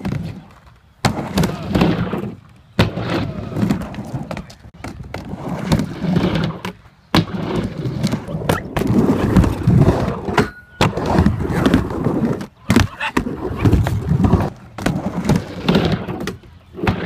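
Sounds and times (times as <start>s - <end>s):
skateboard wheels rolling on wood: 0.0s - 17.0s.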